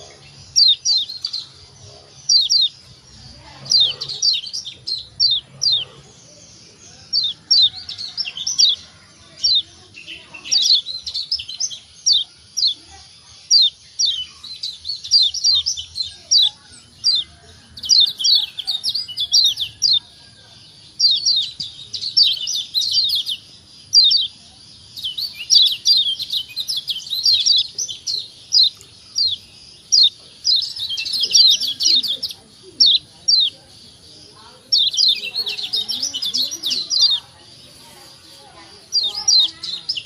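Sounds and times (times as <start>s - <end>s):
bird chip calls: 0.0s - 40.0s.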